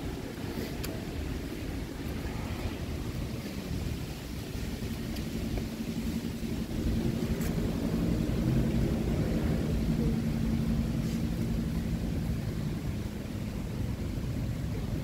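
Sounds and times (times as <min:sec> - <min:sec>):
low rumble: 0:00.0 - 0:15.0
passing engine drone: 0:00.0 - 0:15.0.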